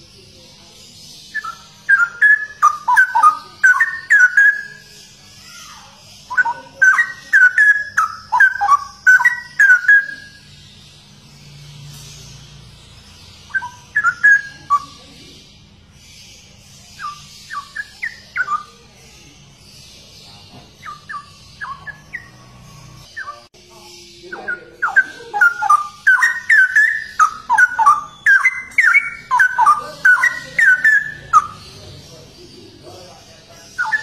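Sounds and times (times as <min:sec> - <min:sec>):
bird warbling song: 0:00.0 - 0:34.0.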